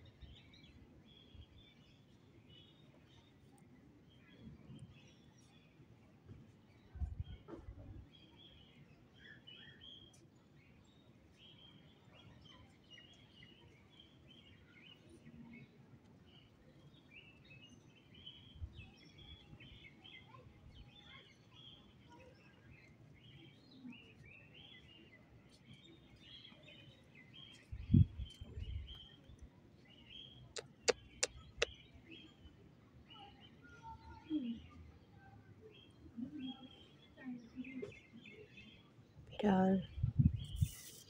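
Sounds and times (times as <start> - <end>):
small birds chirping: 6.7 - 41.0.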